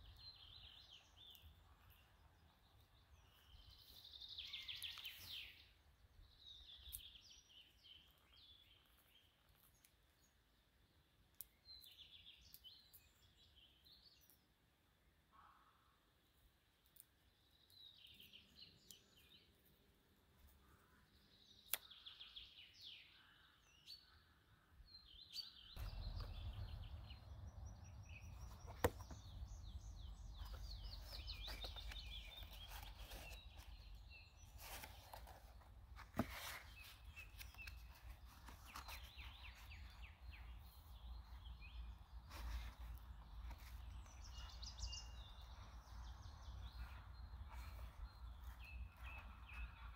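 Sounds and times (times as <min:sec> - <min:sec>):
small birds chirping: 0:00.0 - 0:14.7, 0:15.4 - 0:49.9.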